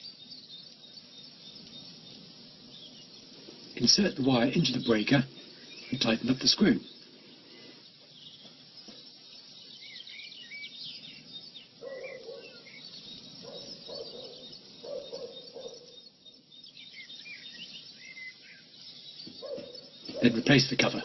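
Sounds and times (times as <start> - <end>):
lower steady bird call: 0.0 - 21.0
small birds chirping: 0.0 - 21.0.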